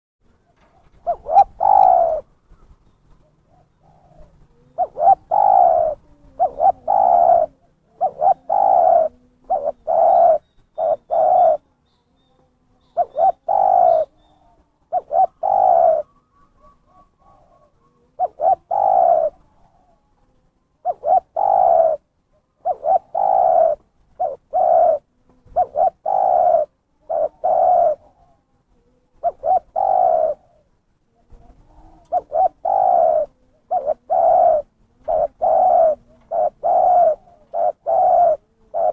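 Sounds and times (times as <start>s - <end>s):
dove cooing: 0.3s - 38.9s.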